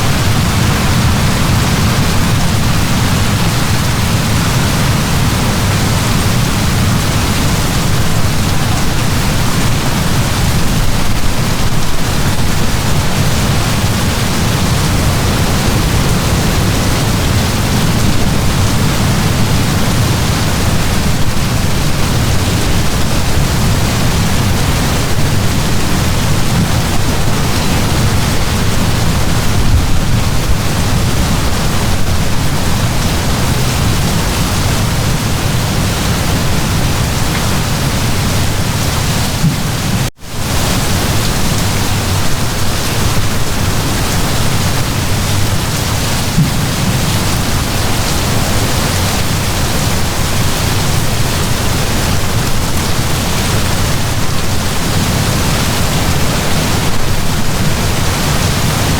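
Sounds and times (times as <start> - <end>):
heavy rain downpour: 0.0 - 58.9.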